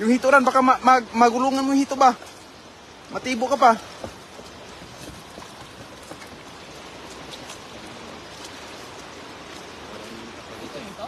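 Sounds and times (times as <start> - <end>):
stream running over rocks: 0.0 - 11.0
light splashes from wading: 1.1 - 11.0.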